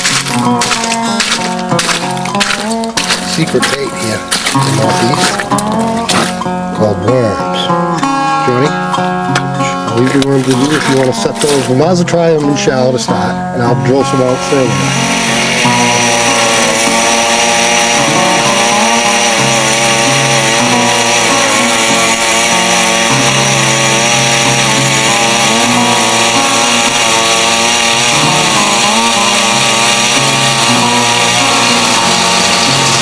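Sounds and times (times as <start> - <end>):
ice auger engine drilling: 0.0 - 33.0.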